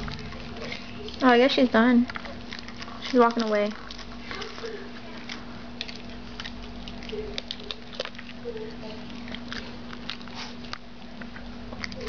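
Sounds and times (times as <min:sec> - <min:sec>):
dog crunching kibble in metal bowl: 0:00.0 - 0:12.0.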